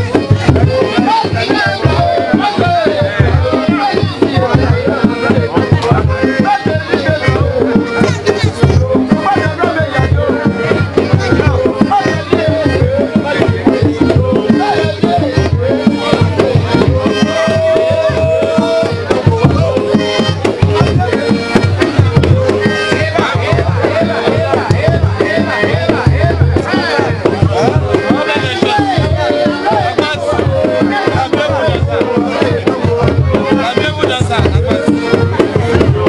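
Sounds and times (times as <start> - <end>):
fast hand drumming music: 0.0 - 36.0.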